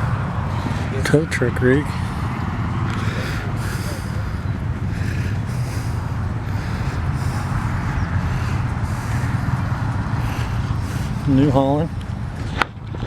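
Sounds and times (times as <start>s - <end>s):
road and wind noise: 0.0s - 13.0s
vehicle engine droning: 0.0s - 13.0s.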